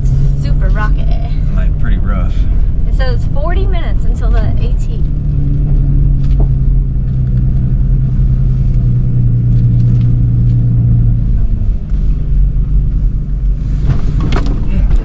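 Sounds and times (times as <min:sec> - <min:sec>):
car engine driving: 0:00.0 - 0:15.0.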